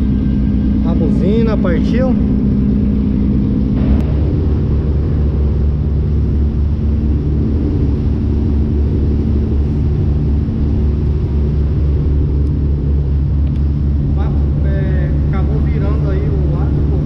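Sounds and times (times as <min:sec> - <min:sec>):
boat engine droning: 0:00.0 - 0:17.0
faint held hum: 0:00.0 - 0:17.0.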